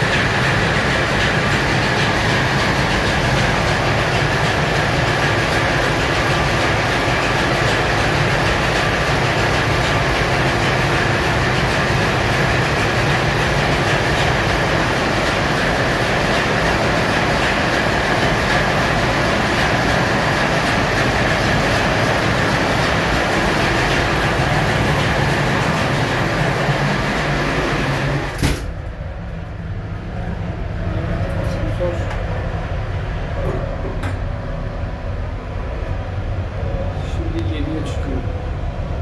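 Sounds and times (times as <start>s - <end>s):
ship engine room machinery: 0.0s - 39.0s.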